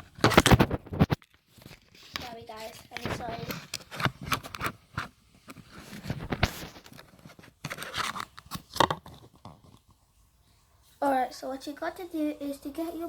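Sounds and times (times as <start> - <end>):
rustling: 0.0 - 11.1.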